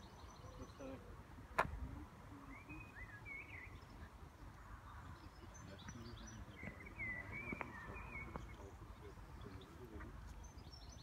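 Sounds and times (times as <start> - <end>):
small birds warbling: 0.0 - 11.0.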